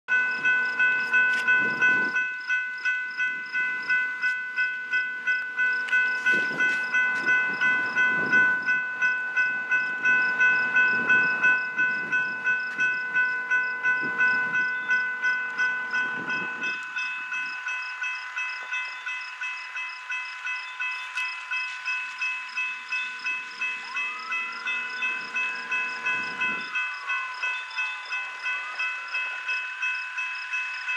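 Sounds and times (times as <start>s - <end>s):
crossing bell ringing: 0.1s - 30.9s.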